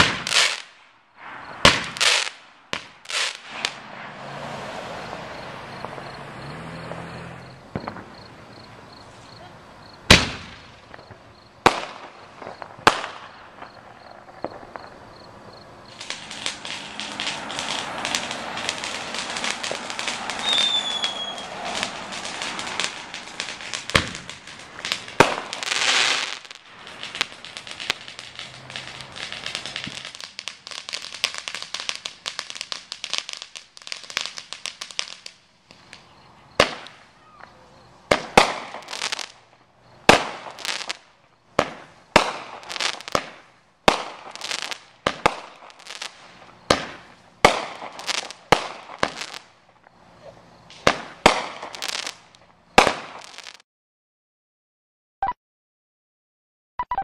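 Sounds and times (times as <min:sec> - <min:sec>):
fireworks bangs: 0:00.0 - 0:49.6, 0:50.7 - 0:53.6
fireworks crackling: 0:00.0 - 0:53.6.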